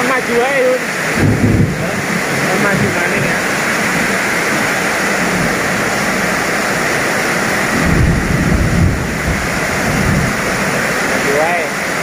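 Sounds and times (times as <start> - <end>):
heavy rain: 0.0 - 12.0
low rumble: 1.1 - 11.0.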